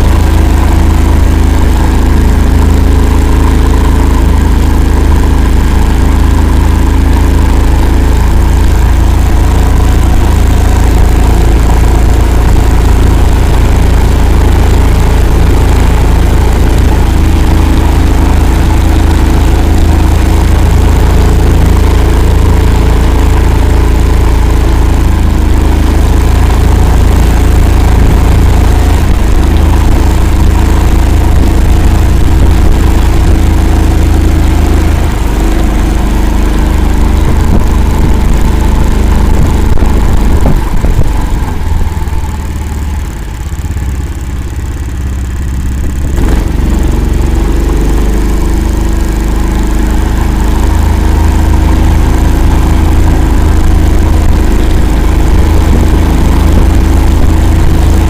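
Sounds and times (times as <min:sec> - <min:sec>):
all-terrain vehicle engine running: 0:00.0 - 0:58.0.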